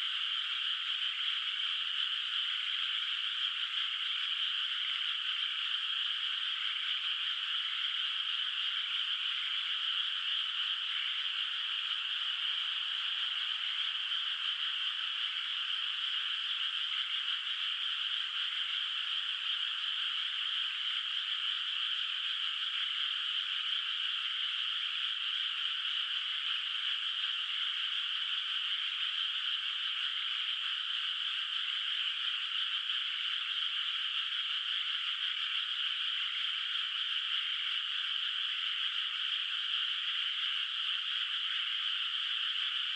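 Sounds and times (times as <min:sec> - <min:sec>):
chorus of frogs calling: 0:00.0 - 0:42.9.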